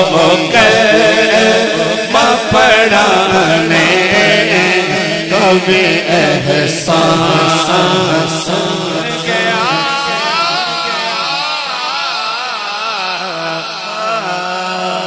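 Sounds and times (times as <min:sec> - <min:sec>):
man singing over loudspeakers: 0:00.0 - 0:15.0.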